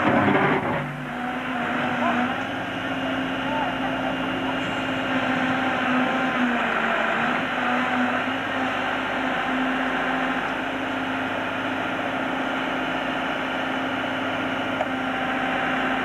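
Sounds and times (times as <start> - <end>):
backhoe engine under load: 0.0 - 16.0
constant hum: 0.0 - 16.0.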